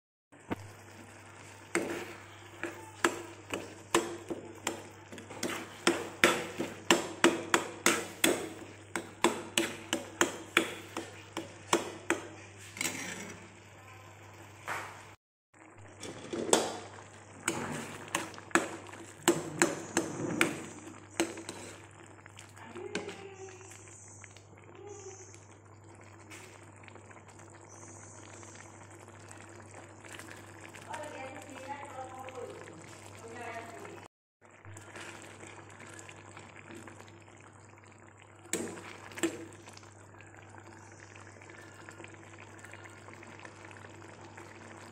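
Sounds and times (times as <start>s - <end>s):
curry bubbling in a pan: 0.3s - 44.9s.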